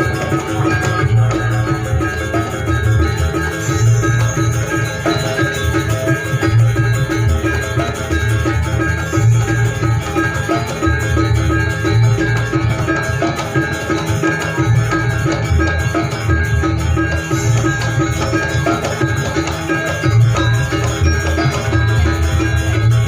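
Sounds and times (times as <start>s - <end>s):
metallophones playing fast figure: 0.0s - 23.0s
pulsing drums: 0.0s - 23.0s.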